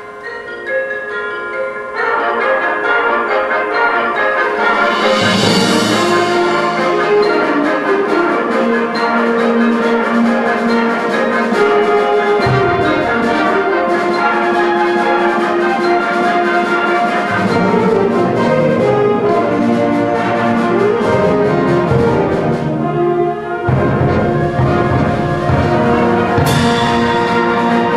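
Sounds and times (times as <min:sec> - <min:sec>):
concert band playing chords: 0:03.7 - 0:27.9.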